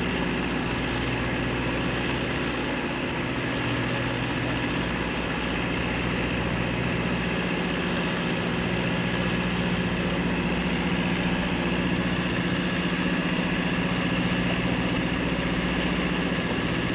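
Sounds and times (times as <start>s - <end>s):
gas turbine engines humming and whining: 0.0s - 16.9s.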